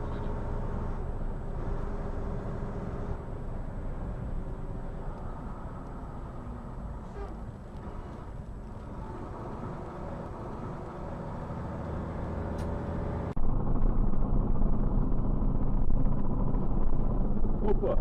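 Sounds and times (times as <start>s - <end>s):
deep rumble: 0.0s - 18.0s
road noise: 0.0s - 18.0s
vehicle engine: 0.0s - 18.0s.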